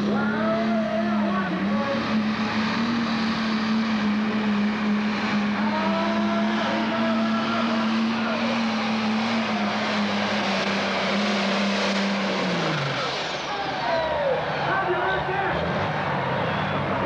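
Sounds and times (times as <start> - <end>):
diesel engine running hard: 0.0 - 17.0.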